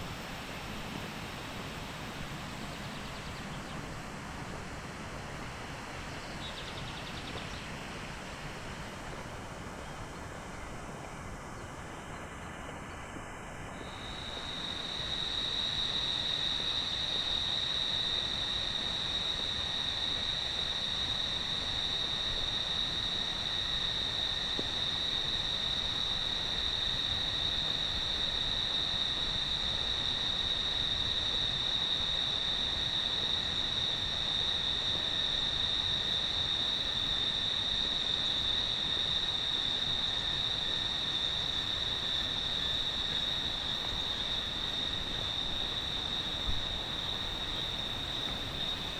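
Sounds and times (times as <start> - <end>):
background hiss: 0.0 - 48.9
jungle insects droning: 0.0 - 48.9.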